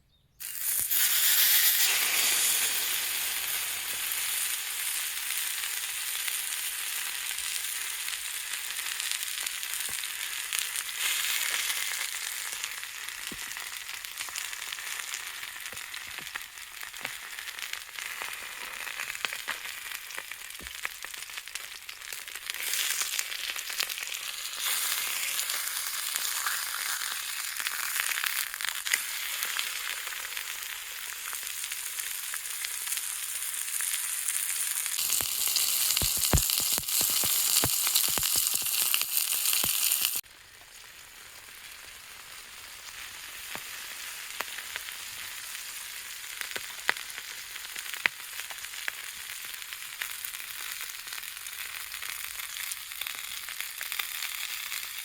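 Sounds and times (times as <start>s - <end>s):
steak sizzling in a frying pan: 0.4s - 55.0s.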